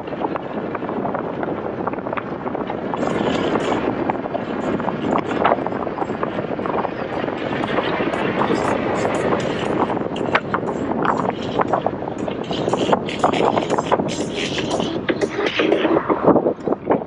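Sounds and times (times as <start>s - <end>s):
wind rush over microphone: 0.0s - 17.0s
small crackles: 2.2s - 16.7s.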